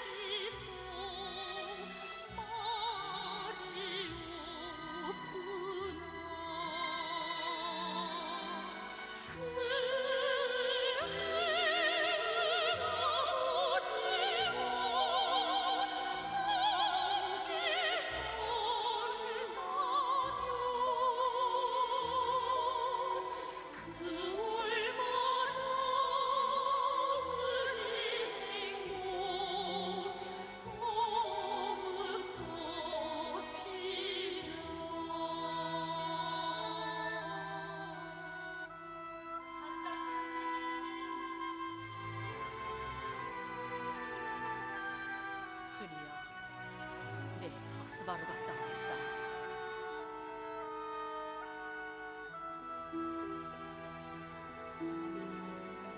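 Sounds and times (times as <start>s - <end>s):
operatic singing: 0.0s - 55.9s
orchestral accompaniment: 0.0s - 55.9s.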